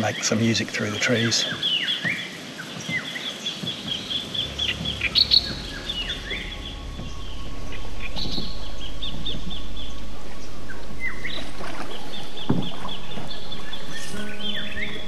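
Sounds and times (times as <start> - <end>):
low rumble of wind: 0.0 - 15.0
small birds chirping: 0.0 - 15.0.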